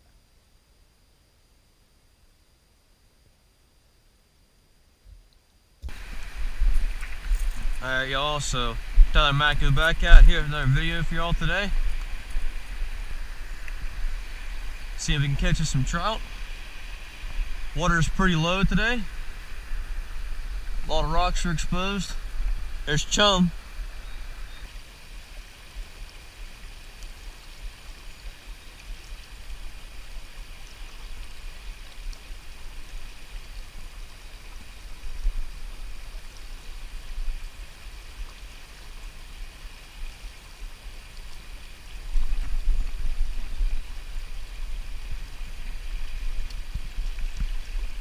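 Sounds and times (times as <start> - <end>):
river flowing over rocks: 5.9 - 48.0.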